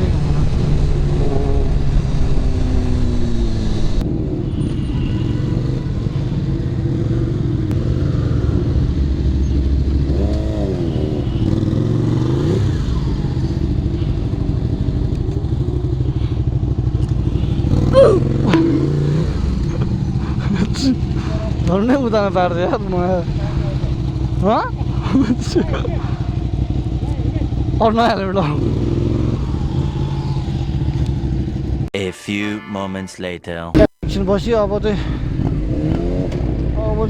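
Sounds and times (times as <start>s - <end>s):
motorcycle engine running: 0.0s - 31.9s, 33.8s - 37.0s
road noise rushing: 0.0s - 31.9s.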